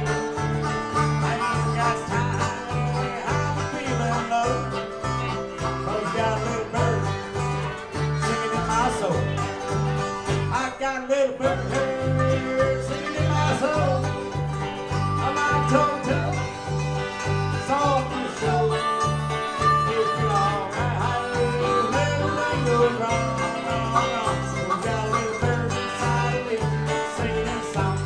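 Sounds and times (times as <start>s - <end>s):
harmonica with bending notes: 0.0s - 10.6s, 11.4s - 28.0s
acoustic guitars: 0.0s - 28.0s
mandolin: 0.0s - 28.0s
picked banjo: 0.0s - 28.0s.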